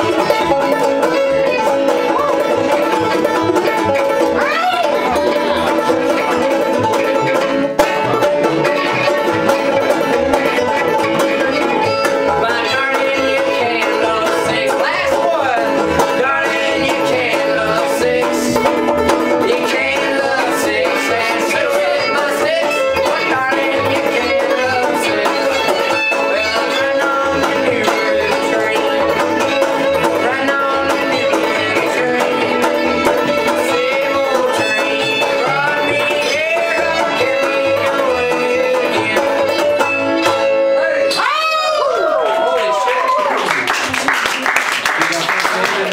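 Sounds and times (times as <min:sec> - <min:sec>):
plucked upright bass: 0:00.0 - 0:41.2
fiddle bowing melody: 0:00.0 - 0:41.4
picked banjo: 0:00.0 - 0:45.9.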